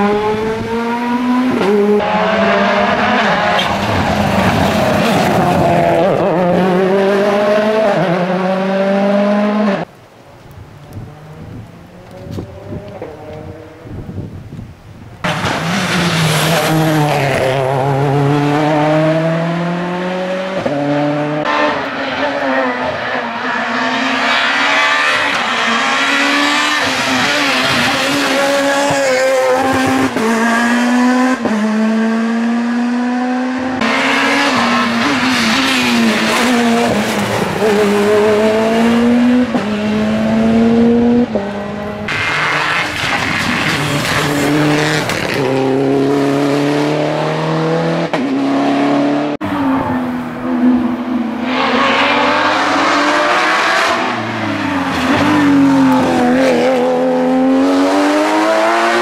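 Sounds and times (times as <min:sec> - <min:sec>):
rally cars at full throttle: 0:00.0 - 0:59.0.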